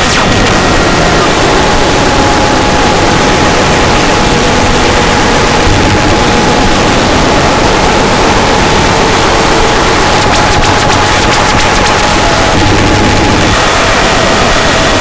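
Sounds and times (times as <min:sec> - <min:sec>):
harsh static noise music: 0:00.0 - 0:15.0.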